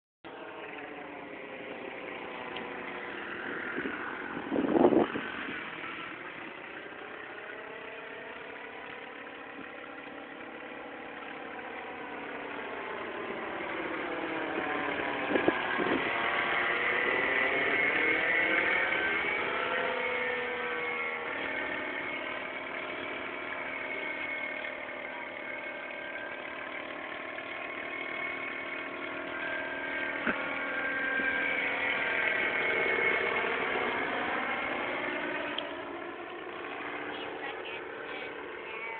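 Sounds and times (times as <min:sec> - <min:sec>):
paramotor engine and propeller: 0:00.2 - 0:38.9.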